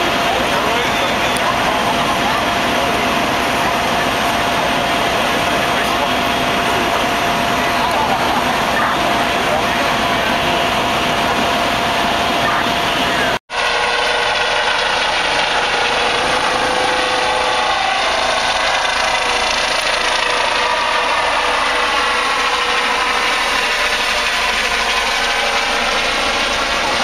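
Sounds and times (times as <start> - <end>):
helicopter rotor and turbine: 0.0 - 27.0.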